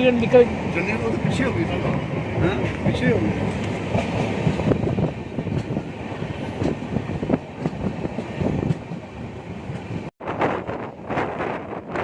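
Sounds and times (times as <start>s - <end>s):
train coaches rumbling: 0.0s - 12.0s
wind buffeting microphone: 0.2s - 12.0s.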